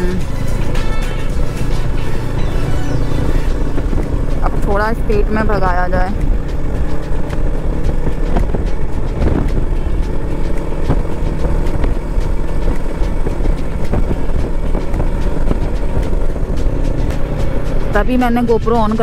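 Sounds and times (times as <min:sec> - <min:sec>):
motorcycle engine rumble: 0:00.0 - 0:19.0
wind buffeting microphone: 0:00.0 - 0:19.0.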